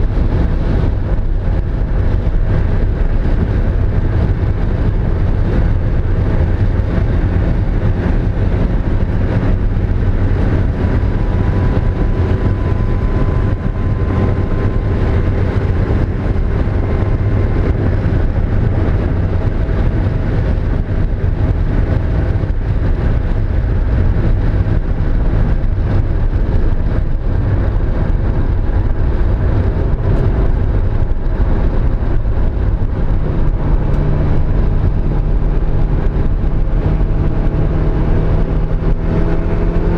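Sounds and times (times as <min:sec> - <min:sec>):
car engine running at speed: 0:00.0 - 0:39.9
wind and road noise: 0:00.0 - 0:39.9.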